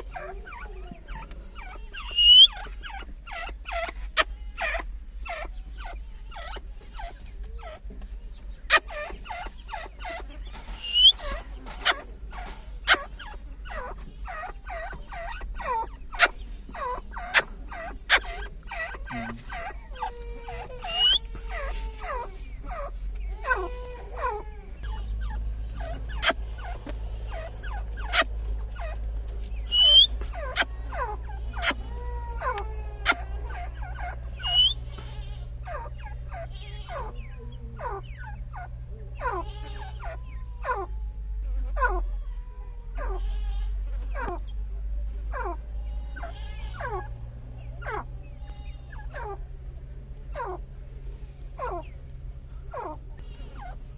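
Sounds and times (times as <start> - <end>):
francolin calling: 0.0 - 7.9, 8.6 - 49.7
low steady hum: 0.0 - 53.9.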